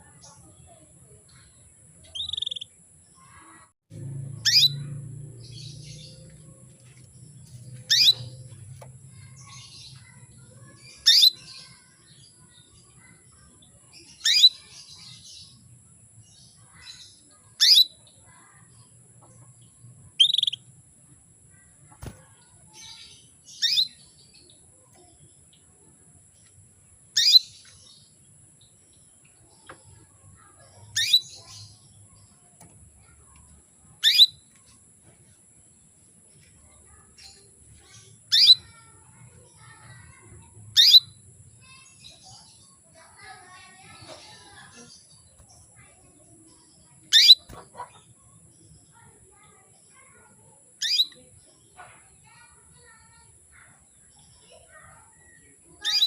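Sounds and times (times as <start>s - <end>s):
canary chirps sweeping downward: 1.3s - 21.1s, 21.7s - 25.8s, 27.0s - 32.4s, 33.9s - 34.6s, 36.7s - 56.0s.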